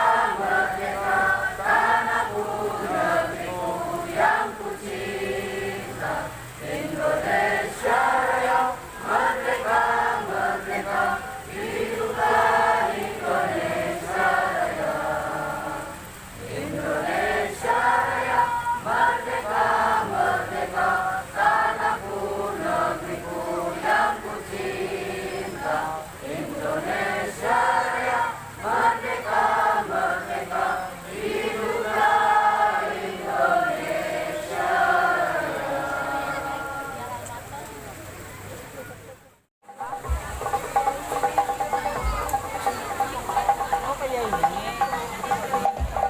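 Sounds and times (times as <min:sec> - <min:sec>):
voices singing in chorus: 0:00.0 - 0:37.4, 0:39.7 - 0:46.0.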